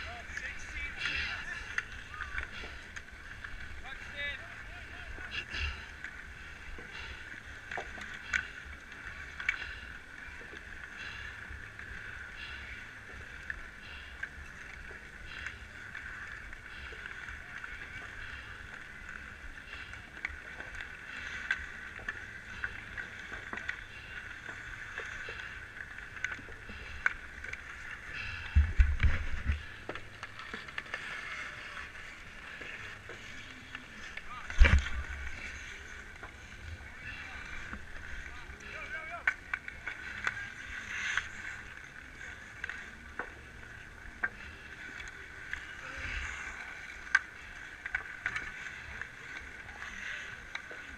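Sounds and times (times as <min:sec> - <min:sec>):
skates scraping ice: 0:00.0 - 0:50.9
steady hiss of rink: 0:00.0 - 0:50.9.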